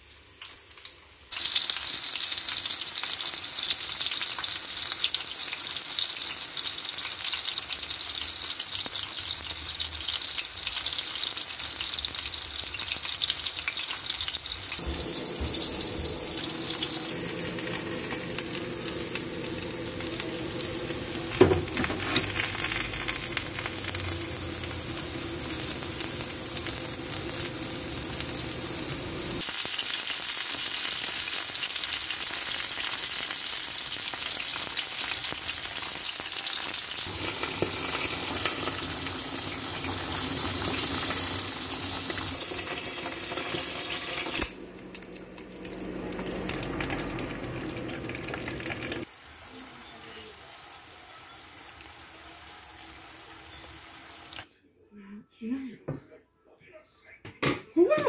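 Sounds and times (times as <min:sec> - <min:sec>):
food sizzling in frying pan: 0:00.0 - 0:54.5.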